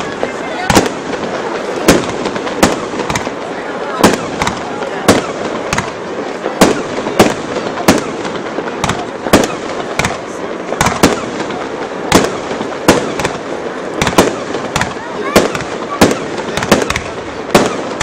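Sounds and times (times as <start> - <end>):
fireworks shells bursting: 0.0 - 18.0
steady background din: 0.0 - 18.0.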